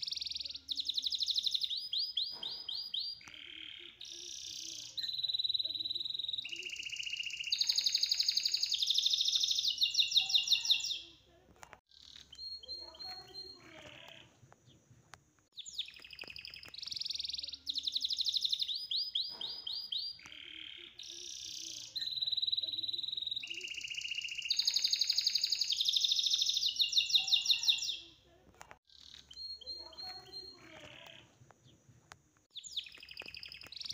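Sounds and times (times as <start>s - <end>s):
songbird trilling and chirping: 0.0s - 11.2s, 11.9s - 14.9s, 15.5s - 28.2s, 28.8s - 31.9s, 32.5s - 33.9s.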